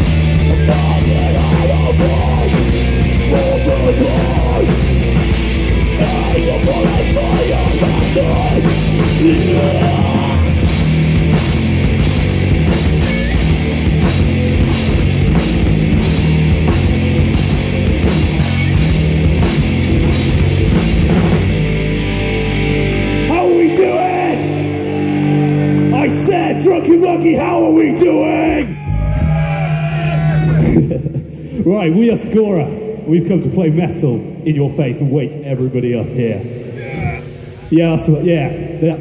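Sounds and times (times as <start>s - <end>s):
pounding drum kit: 0.0s - 24.5s, 25.2s - 32.4s
electric guitars: 0.0s - 31.6s
heavy metal band playing: 0.0s - 34.8s.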